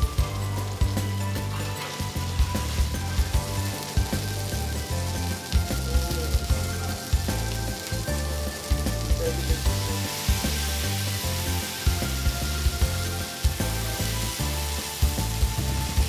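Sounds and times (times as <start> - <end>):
background music with bass: 0.0 - 16.0
fish sizzling in oil: 0.0 - 16.0.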